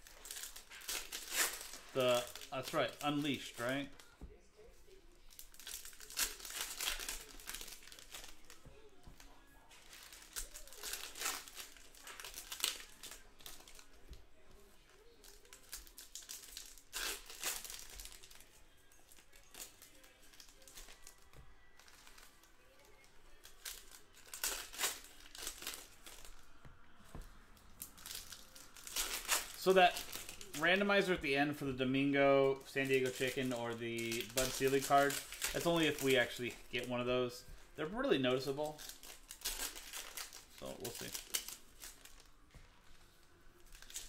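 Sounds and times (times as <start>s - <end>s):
foil packs being torn open: 0.0s - 4.0s, 5.2s - 8.8s, 9.8s - 14.0s, 14.9s - 26.4s, 27.8s - 31.1s, 32.7s - 37.1s, 37.9s - 42.4s, 43.6s - 44.0s
foil wrappers crinkling: 0.0s - 44.0s.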